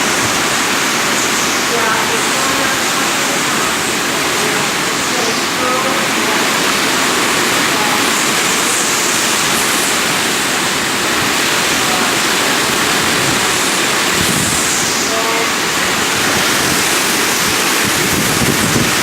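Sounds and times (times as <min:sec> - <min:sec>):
heavy rain: 0:00.0 - 0:19.0
hurricane wind: 0:00.0 - 0:19.0.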